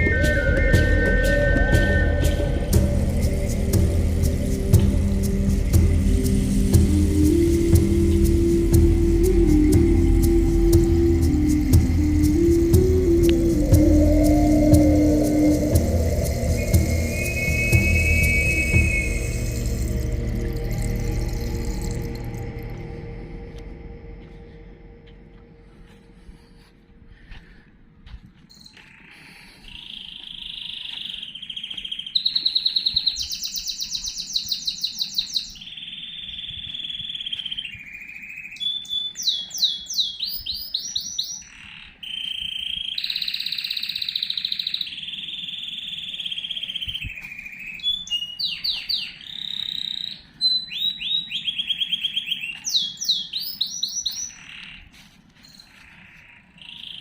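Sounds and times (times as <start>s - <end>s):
songbird singing: 0.0s - 27.6s, 28.4s - 57.0s.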